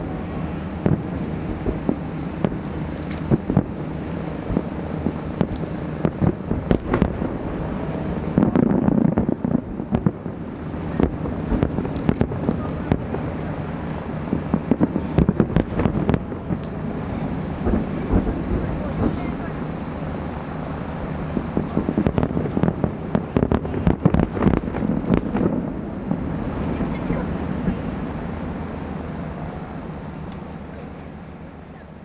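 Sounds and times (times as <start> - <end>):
fireworks cracks: 0.0 - 28.6
fireworks bangs: 0.0 - 30.6
low rumble: 0.0 - 31.8.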